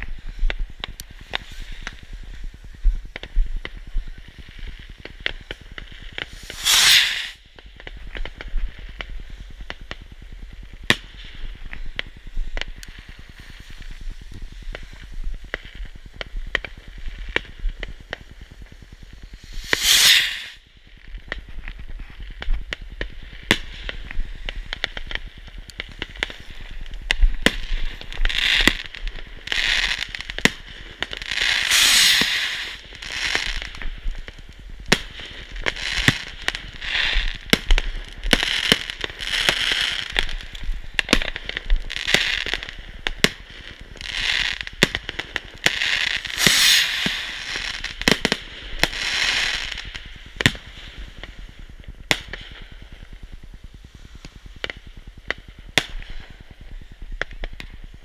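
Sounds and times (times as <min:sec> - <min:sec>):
fireworks banging: 0:00.0 - 0:58.0
fireworks hissing and crackling: 0:00.0 - 0:58.0.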